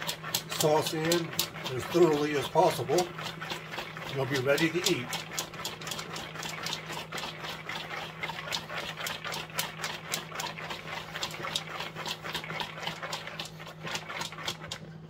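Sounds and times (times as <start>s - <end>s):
popcorn rattling in plastic bowl: 0.0s - 14.9s.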